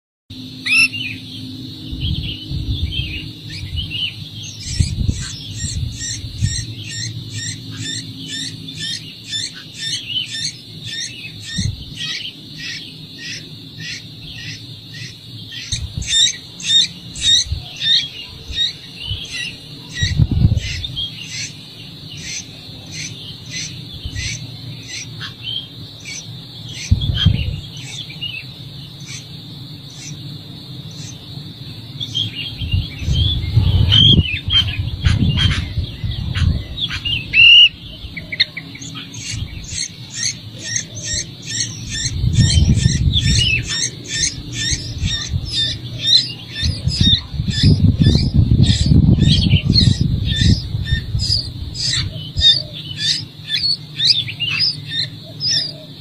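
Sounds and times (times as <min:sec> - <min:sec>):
nestlings chirping: 0:00.4 - 0:56.0.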